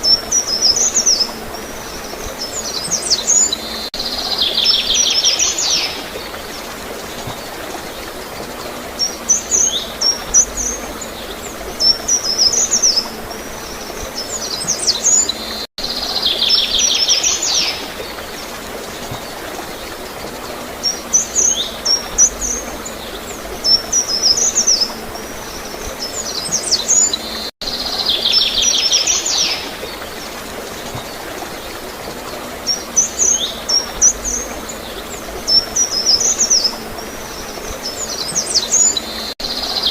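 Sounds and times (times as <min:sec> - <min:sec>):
flowing water: 0:00.0 - 0:39.9
songbirds singing and chirping: 0:00.0 - 0:39.9.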